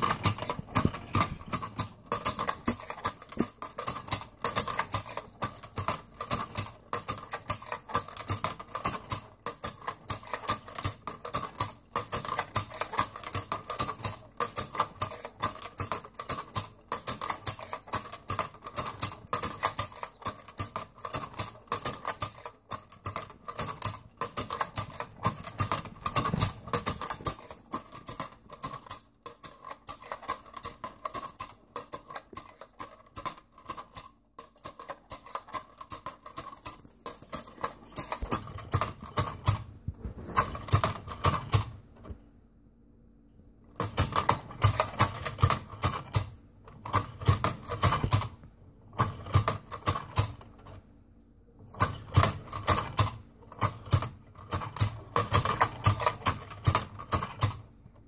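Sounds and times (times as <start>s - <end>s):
clockwork toy clicking and rattling: 0.0s - 39.7s, 40.4s - 41.7s, 43.8s - 48.3s, 49.0s - 50.8s, 51.8s - 57.6s.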